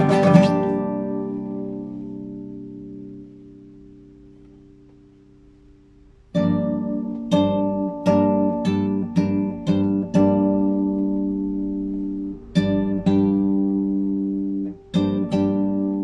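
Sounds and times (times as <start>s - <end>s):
classical guitar chords: 0.0s - 16.0s.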